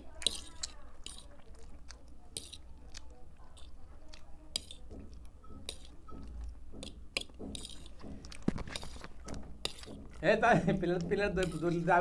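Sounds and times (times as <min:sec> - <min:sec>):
person chewing noodles: 0:00.0 - 0:10.2.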